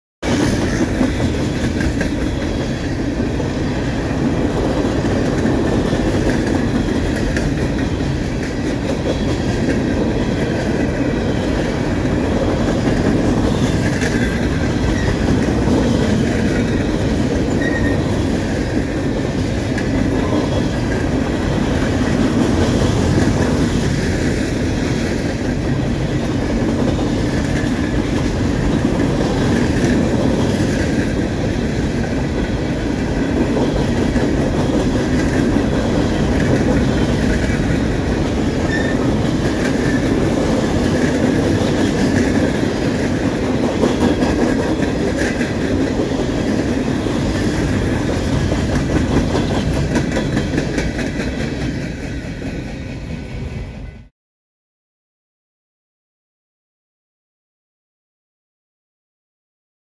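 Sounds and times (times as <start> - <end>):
freight train wheels rolling on rails: 0.2 - 54.1.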